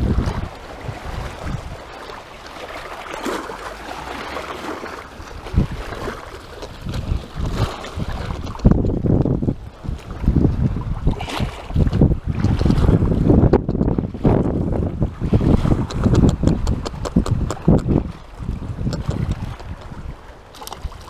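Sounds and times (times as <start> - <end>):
wind buffeting the microphone: 0.0 - 2.0, 4.9 - 21.0.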